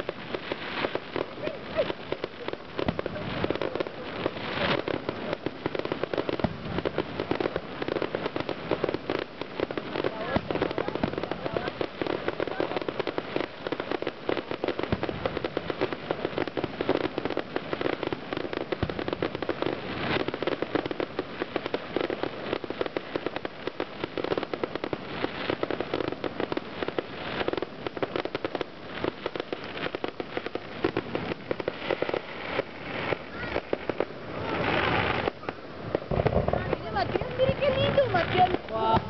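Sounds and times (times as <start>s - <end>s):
fireworks crackling bangs and pops: 0.0s - 39.0s.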